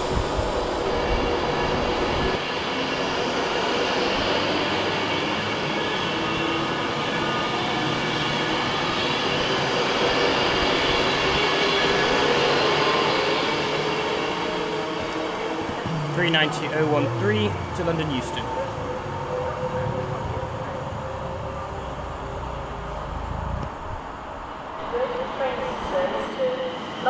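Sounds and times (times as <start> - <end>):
train wheels rushing on rail: 0.0 - 27.0.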